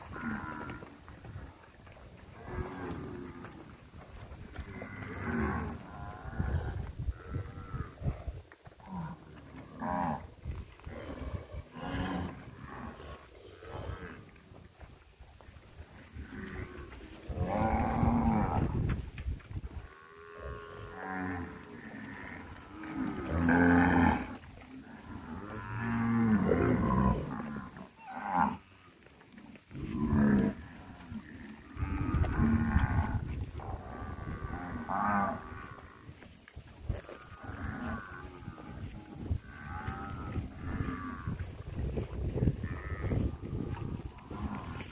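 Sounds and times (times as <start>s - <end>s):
cattle mooing: 0.0s - 1.4s, 2.3s - 3.7s, 4.5s - 8.1s, 8.8s - 14.3s, 16.2s - 18.9s, 19.8s - 28.6s, 29.7s - 36.2s, 36.9s - 44.9s.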